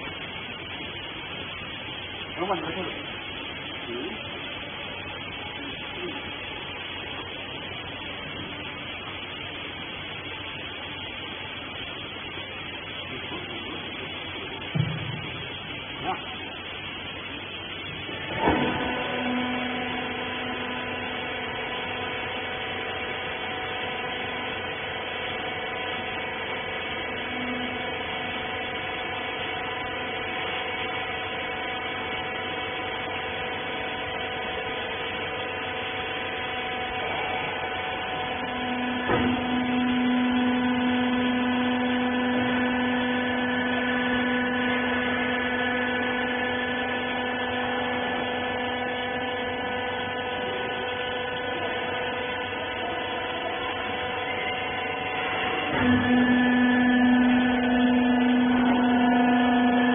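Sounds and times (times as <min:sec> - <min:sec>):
baler motor humming: 0:00.0 - 0:59.9.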